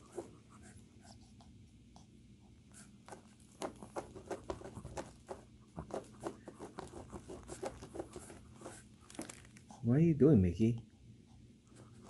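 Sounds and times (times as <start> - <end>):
puppy paws scratching rug: 0.0 - 9.9, 10.8 - 12.0.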